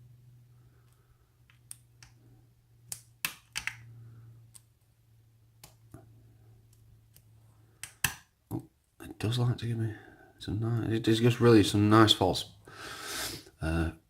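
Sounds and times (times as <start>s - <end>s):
faint low hum: 0.0s - 12.8s.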